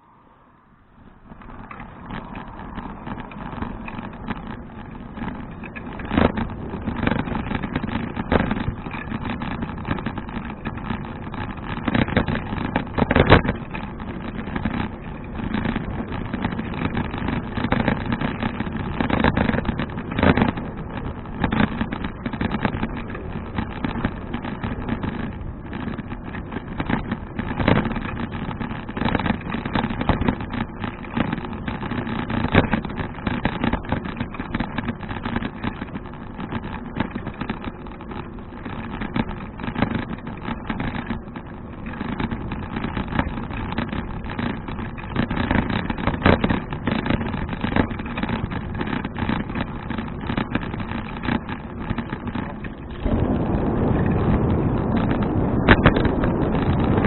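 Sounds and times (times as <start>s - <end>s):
wind and road rush: 0.0s - 57.0s
bicycle rattling knocks: 1.0s - 57.0s.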